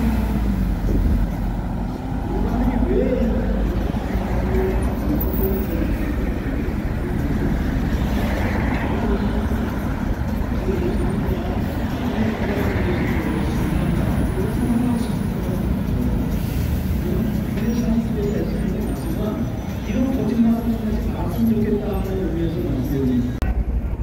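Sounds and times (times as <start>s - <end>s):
bus approaching: 0.0s - 24.0s
road traffic rumble: 0.0s - 24.0s.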